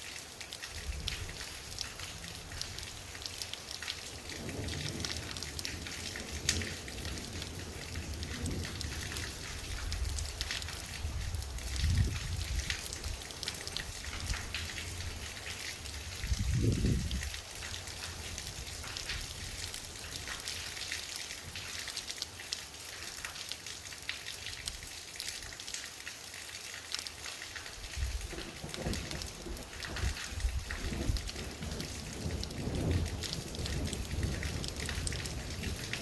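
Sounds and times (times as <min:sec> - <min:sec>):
heavy rain splashing: 0:00.0 - 0:36.0.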